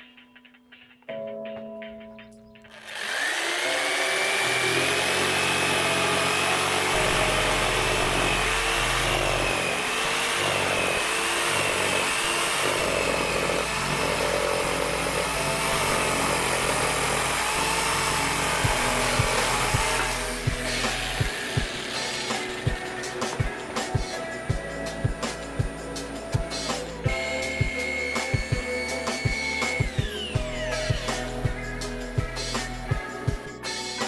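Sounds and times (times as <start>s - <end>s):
background music: 0.0s - 34.0s
power tool cutting wood: 2.7s - 33.5s.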